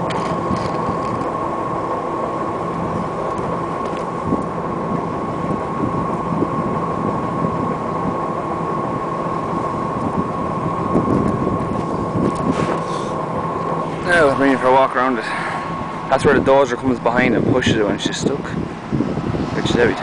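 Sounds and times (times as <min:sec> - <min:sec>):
diesel engine idling: 0:00.0 - 0:20.0
high whine: 0:00.0 - 0:20.0.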